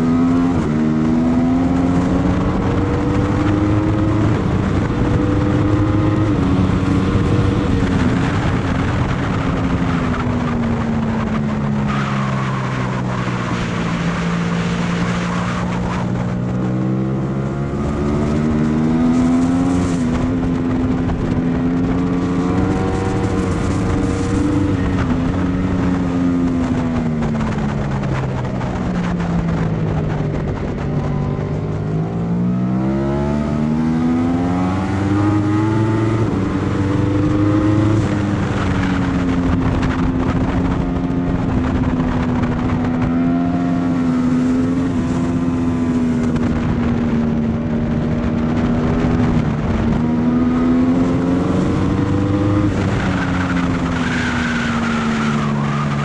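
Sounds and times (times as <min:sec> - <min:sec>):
racing engine revving: 0:00.0 - 0:28.6, 0:29.6 - 0:47.6, 0:48.2 - 0:56.0.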